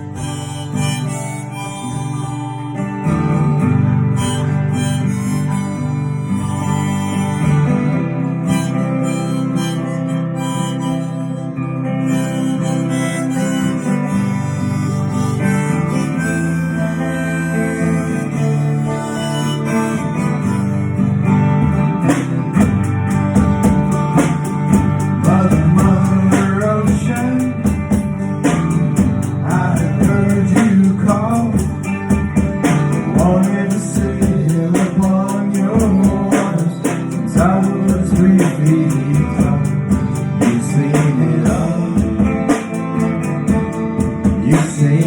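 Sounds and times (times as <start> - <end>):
bending melody lead line: 0.0 - 45.0
drums: 0.0 - 45.0
guitar: 0.0 - 45.0.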